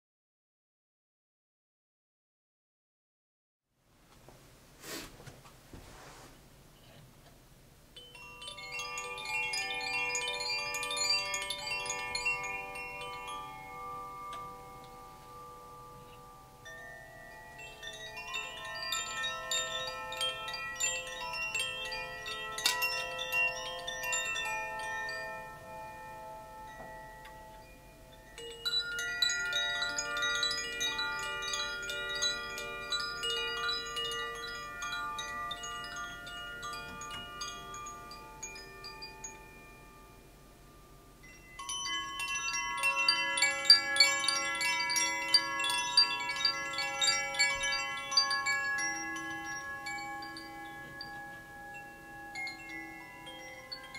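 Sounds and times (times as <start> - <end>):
chimes ringing: 8.0 - 53.9.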